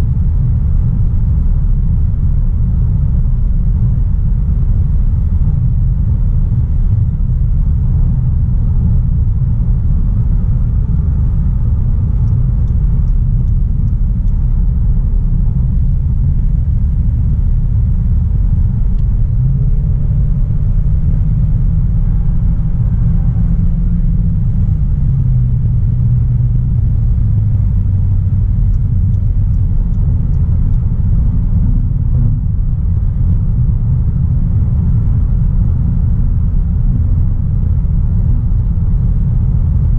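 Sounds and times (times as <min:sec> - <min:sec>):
car engine humming: 0:00.0 - 0:39.9
road and tyre rumble: 0:00.0 - 0:39.9.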